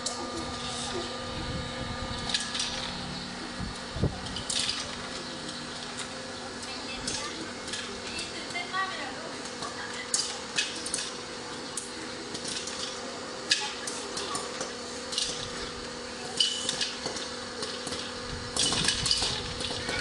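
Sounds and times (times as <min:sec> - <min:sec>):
popcorn machine hum: 0:00.0 - 0:20.0.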